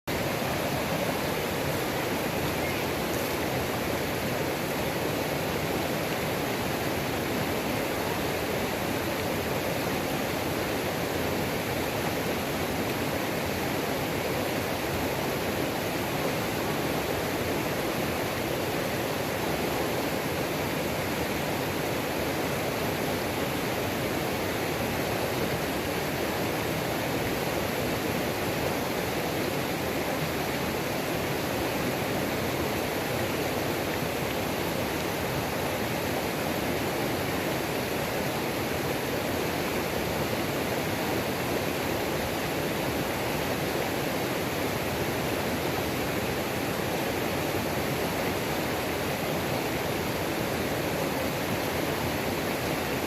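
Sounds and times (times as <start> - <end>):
waterfall roaring: 0.1 - 53.0.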